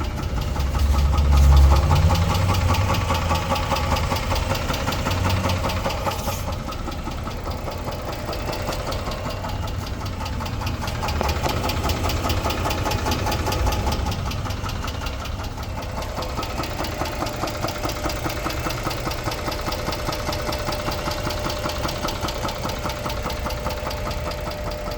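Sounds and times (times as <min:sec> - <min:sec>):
car engine running with knock: 0:00.0 - 0:24.9.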